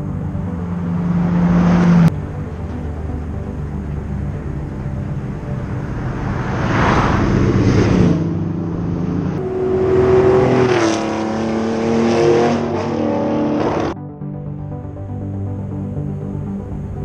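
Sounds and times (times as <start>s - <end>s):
rally car engine accelerating: 0.0s - 14.0s.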